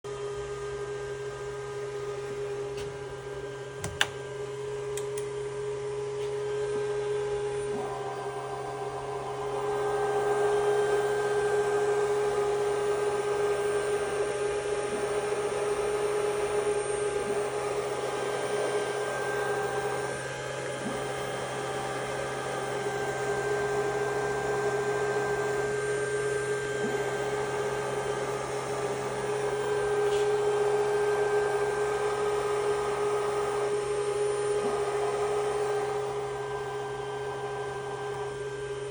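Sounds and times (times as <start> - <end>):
electrical hum and whine: 0.1 - 38.9.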